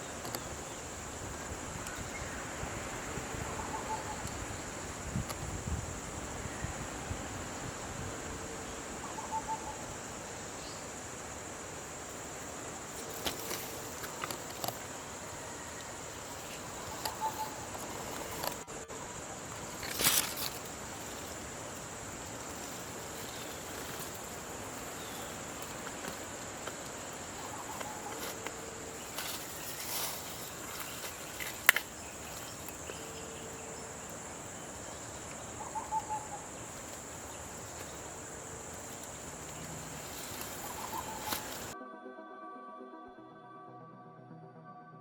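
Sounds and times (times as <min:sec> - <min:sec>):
insect chorus: 0:00.0 - 0:41.8
thin high continuous tone: 0:00.0 - 0:41.8.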